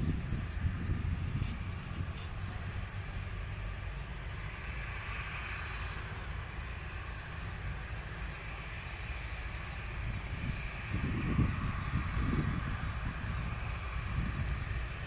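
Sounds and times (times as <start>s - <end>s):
low-flying helicopter: 0.0s - 15.0s.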